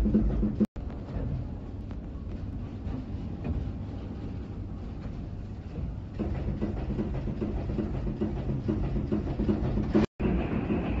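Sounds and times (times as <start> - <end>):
machinery rumble and clatter: 0.0 - 11.0.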